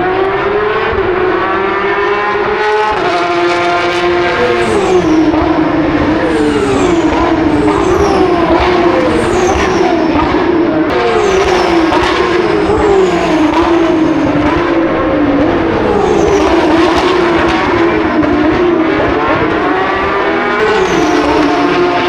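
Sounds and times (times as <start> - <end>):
race car engines passing: 2.3 - 22.0.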